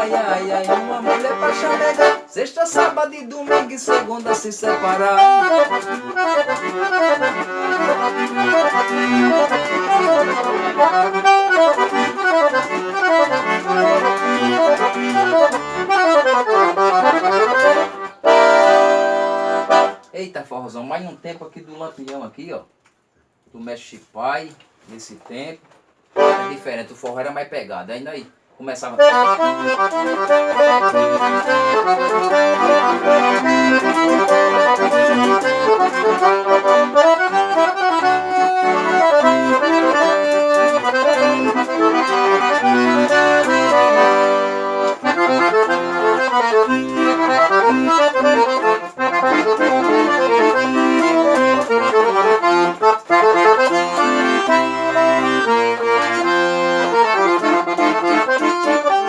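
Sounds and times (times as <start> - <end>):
accordion playing lively melody: 0.0 - 20.1, 26.1 - 26.9, 28.8 - 59.0.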